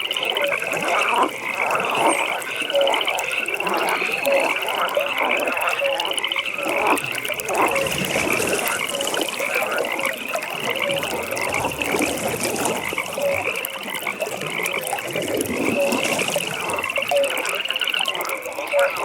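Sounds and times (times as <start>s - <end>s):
frogs croaking: 0.0s - 19.0s
high pulsed frog trill: 0.0s - 19.0s.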